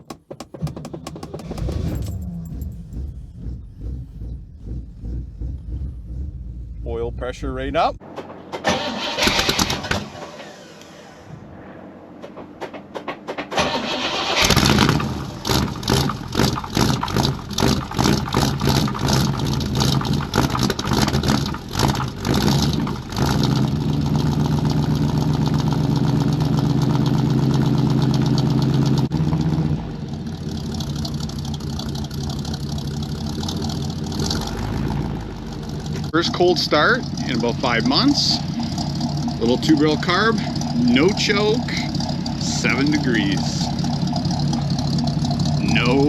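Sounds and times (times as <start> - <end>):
car engine cranking: 0.0 - 11.2, 12.2 - 46.0
car engine running and idling: 0.0 - 11.2, 12.2 - 46.0.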